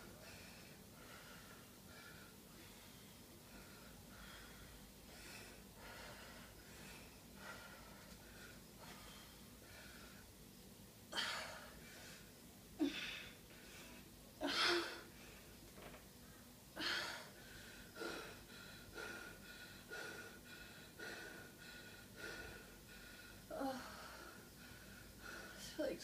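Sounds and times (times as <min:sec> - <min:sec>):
woman breathing hard and gasping: 0:00.2 - 0:10.3, 0:11.1 - 0:15.6, 0:16.7 - 0:25.8.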